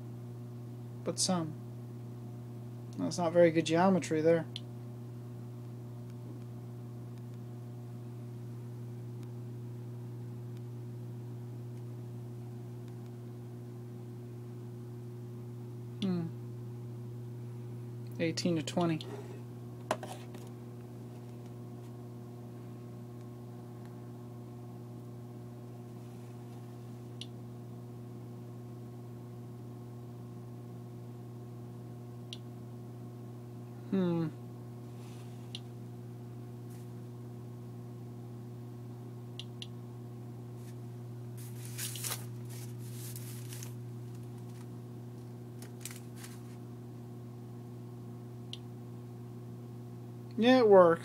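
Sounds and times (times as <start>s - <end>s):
low electrical hum: 0.0s - 51.0s.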